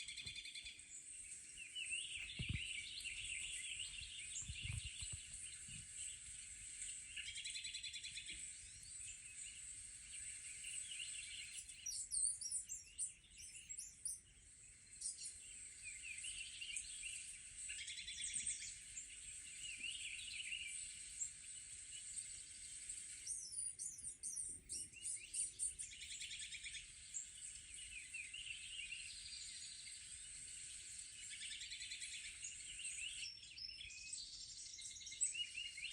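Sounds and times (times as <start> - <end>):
steady high hiss: 0.0 - 12.1, 14.3 - 24.2, 25.3 - 35.1
small birds chirping and trilling: 0.0 - 35.9.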